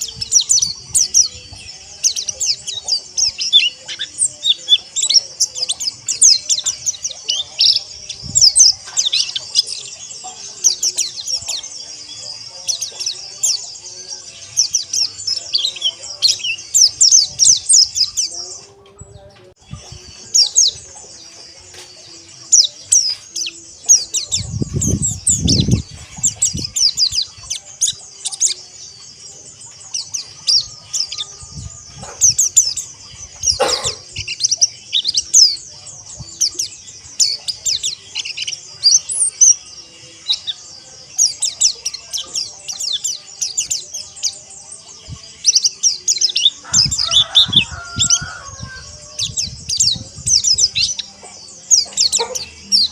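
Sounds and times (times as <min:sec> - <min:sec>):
birds twittering: 0:00.0 - 0:52.9.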